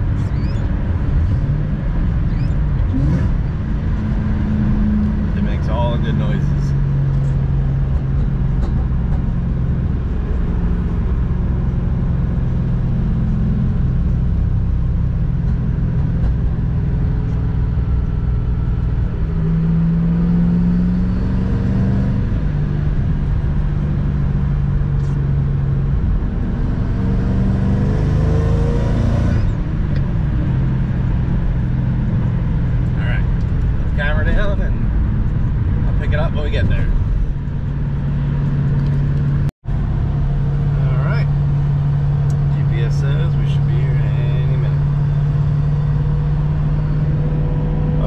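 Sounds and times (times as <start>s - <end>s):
car engine and tyre noise: 0.0s - 48.0s.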